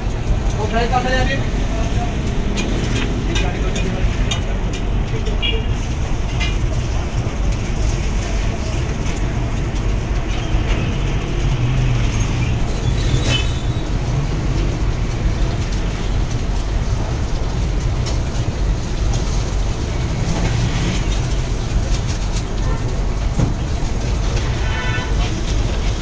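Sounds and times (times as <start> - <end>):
low rumble: 0.0 - 22.4
food sizzling on griddle: 4.2 - 26.0.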